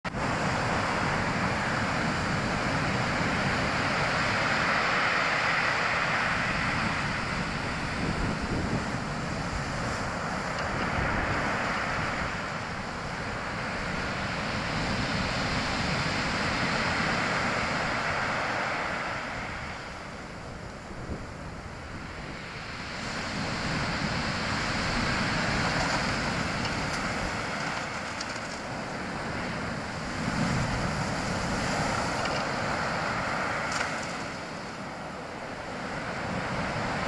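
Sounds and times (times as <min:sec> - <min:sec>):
sea surf on pebble beach: 0:00.1 - 0:37.0.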